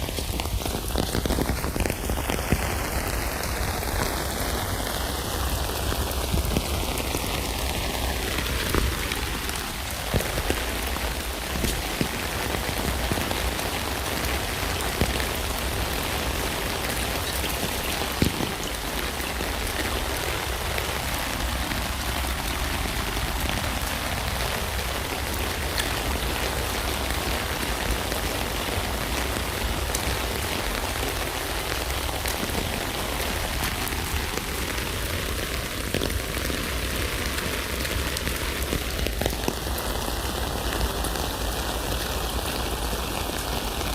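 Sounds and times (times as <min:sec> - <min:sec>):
rain falling on a tent: 0:00.0 - 0:43.9.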